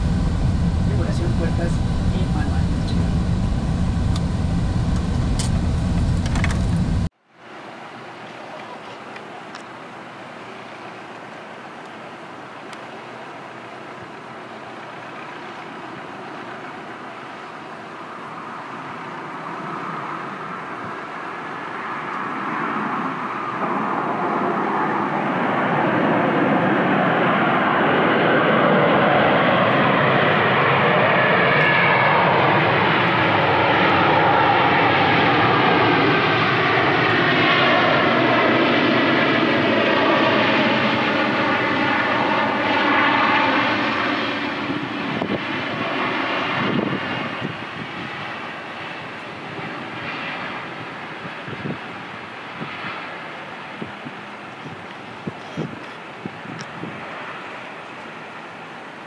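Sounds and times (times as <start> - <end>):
jet engines on landing roll: 0.0 - 59.0.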